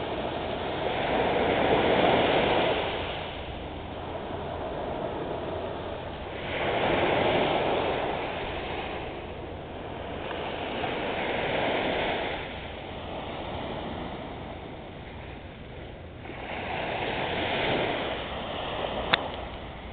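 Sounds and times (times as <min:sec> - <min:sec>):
small surf washing on sand: 0:00.0 - 0:19.9.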